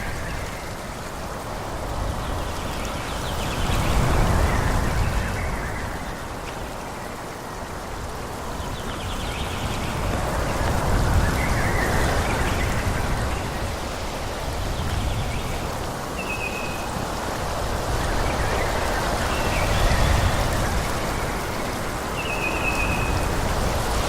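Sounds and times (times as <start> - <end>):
wind rushing through trees: 0.0 - 24.0.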